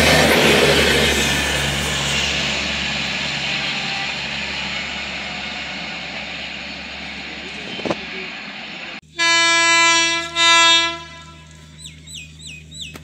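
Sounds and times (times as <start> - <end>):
passenger train rumbling past: 0.0 - 12.9.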